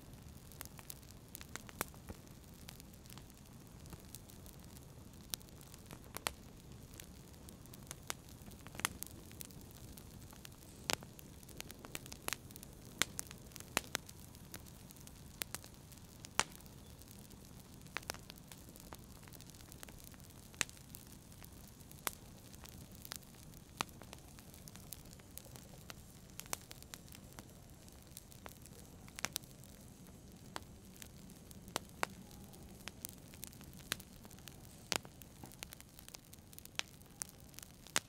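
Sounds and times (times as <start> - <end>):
low steady rush of fire: 0.0 - 38.0
wood fire crackling: 0.0 - 38.0.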